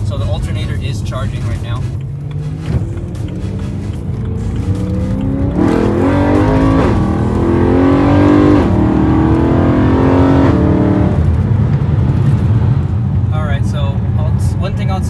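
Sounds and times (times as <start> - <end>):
car engine accelerating: 0.0 - 13.3.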